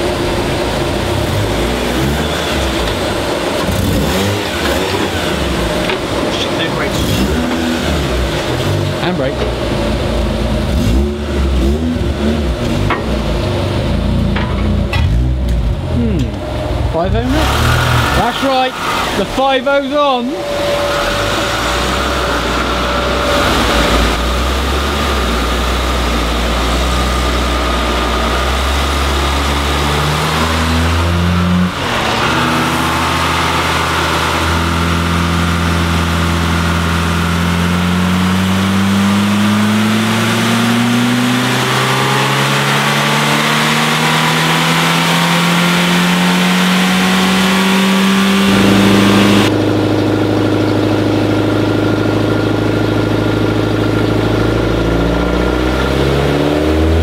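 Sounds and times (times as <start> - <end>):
car engine revving under load: 0.0 - 57.0.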